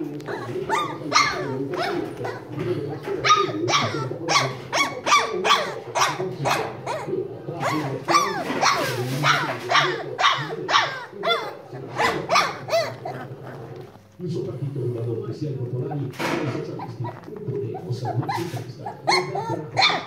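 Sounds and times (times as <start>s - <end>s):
puppies yapping: 0.0s - 14.2s, 16.3s - 20.0s.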